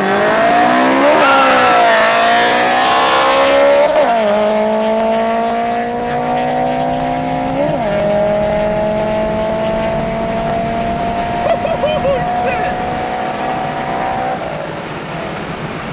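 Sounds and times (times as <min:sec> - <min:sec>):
car engine at full throttle: 0:00.0 - 0:15.9
gear upshifts: 0:00.1 - 0:14.6.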